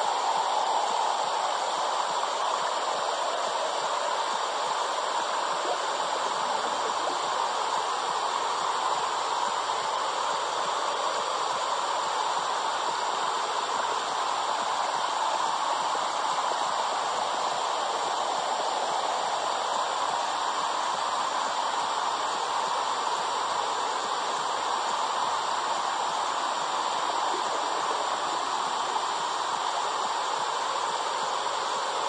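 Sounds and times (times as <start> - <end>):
steady rushing hiss: 0.0 - 32.0.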